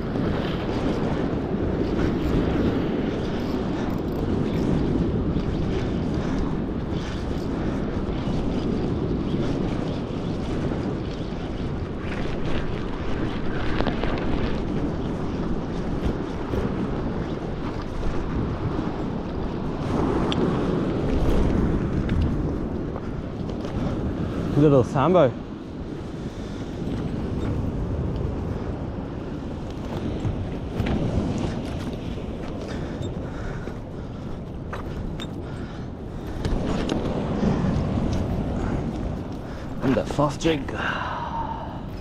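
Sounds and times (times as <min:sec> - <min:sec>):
sea wash: 0:00.0 - 0:42.0
wind buffeting microphone: 0:00.0 - 0:42.0.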